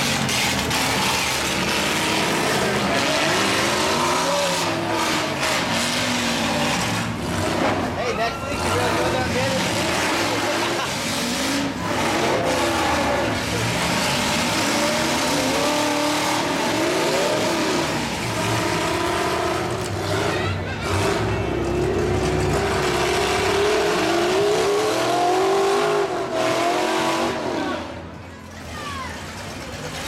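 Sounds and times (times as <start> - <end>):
truck engines revving: 0.0 - 30.0.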